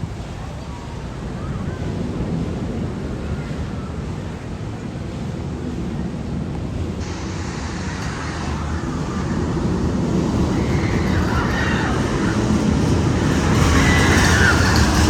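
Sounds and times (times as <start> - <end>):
roller coaster rumble with hiss: 0.0 - 15.0.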